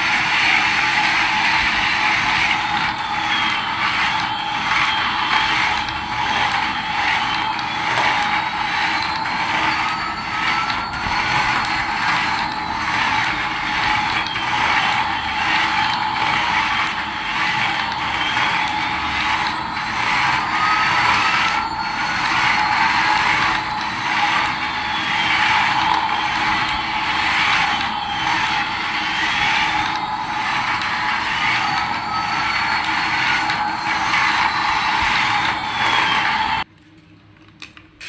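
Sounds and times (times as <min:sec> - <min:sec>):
faint rising and falling tone: 0:00.0 - 0:36.6
toy motor and wheels whirring: 0:00.0 - 0:36.7.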